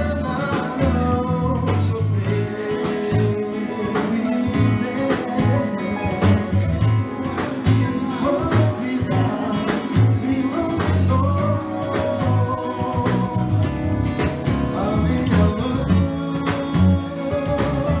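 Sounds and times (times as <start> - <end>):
guitar: 0.0 - 18.0
person singing: 0.0 - 18.0.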